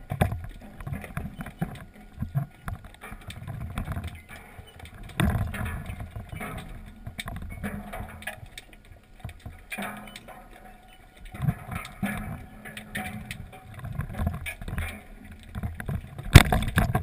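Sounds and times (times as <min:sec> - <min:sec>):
knocks and clicks: 0:00.0 - 0:17.0
water churning and sloshing: 0:00.0 - 0:17.0.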